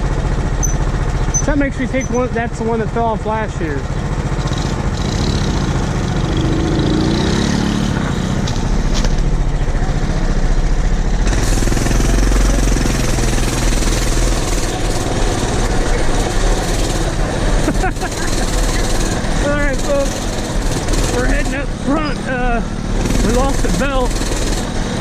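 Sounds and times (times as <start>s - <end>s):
farm machinery engine running: 0.0s - 25.0s.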